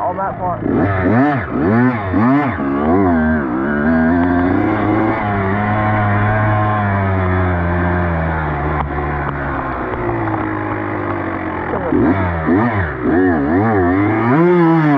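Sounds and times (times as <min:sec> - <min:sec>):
dirt bike engine: 0:00.0 - 0:14.9.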